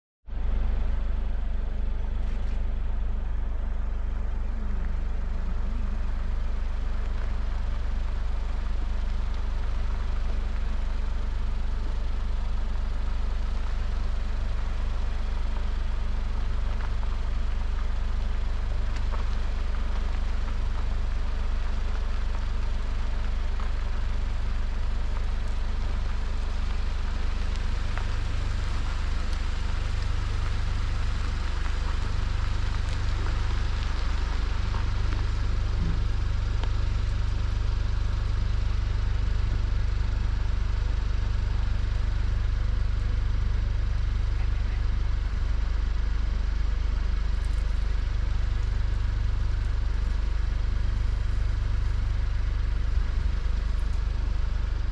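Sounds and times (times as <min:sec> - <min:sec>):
vehicle engine running at low revs: 0:00.3 - 0:54.9.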